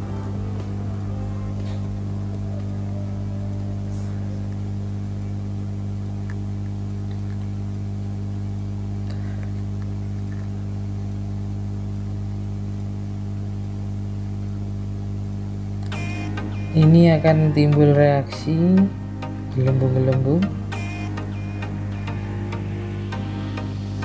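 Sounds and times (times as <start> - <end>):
electrical hum with buzzing: 0.0 - 24.0.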